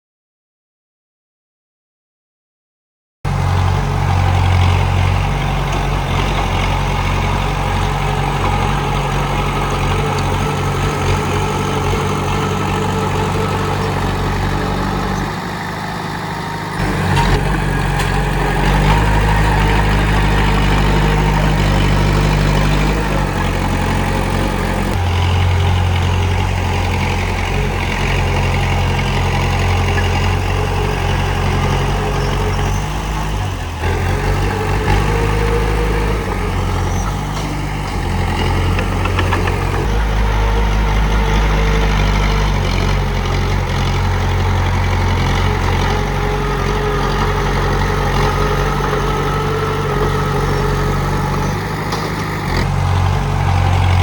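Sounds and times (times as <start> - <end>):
bulldozer diesel engine running: 3.3 - 54.0.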